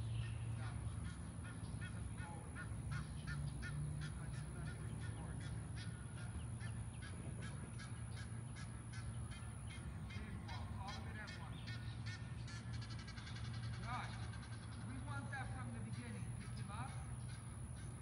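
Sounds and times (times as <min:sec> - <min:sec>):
birds calling rapidly: 0:00.0 - 0:18.0
steady low hum: 0:00.0 - 0:18.0.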